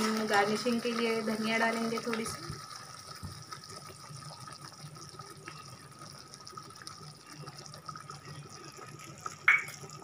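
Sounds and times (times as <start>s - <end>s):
gravy simmering with bubbling hiss: 0.0s - 10.0s.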